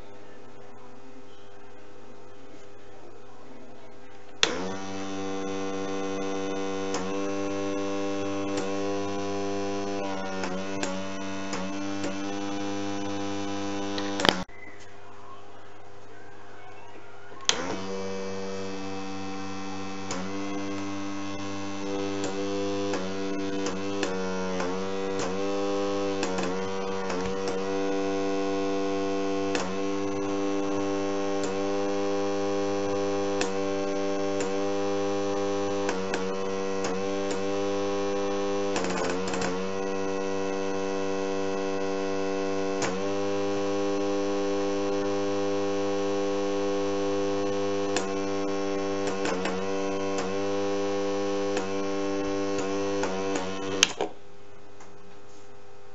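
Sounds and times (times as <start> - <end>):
sharp clicks: 4.1 - 14.9, 17.4 - 54.1
air compressor humming: 4.2 - 14.5, 17.5 - 54.7.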